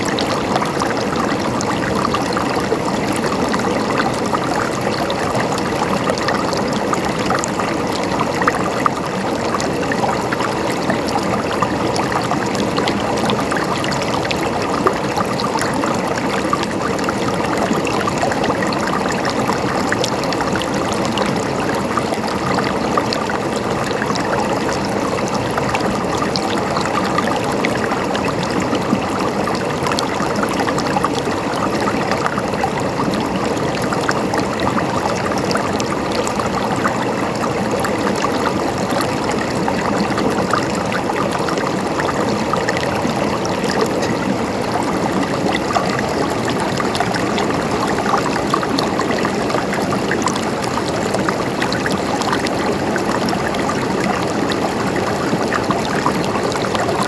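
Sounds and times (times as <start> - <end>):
stream water gurgling: 0.0 - 57.0
tiny water splashes: 0.0 - 57.0.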